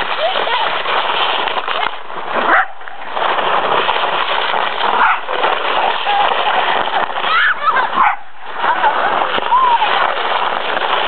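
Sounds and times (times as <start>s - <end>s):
sled sliding on ice: 0.0s - 11.0s.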